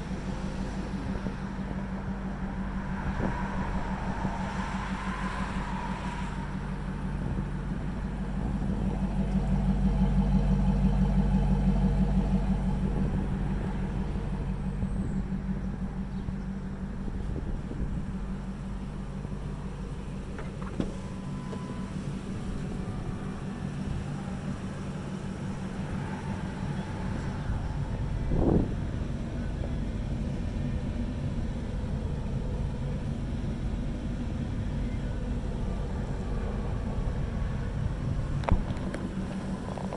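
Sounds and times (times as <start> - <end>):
pickup truck engine idling: 0.0 - 39.9.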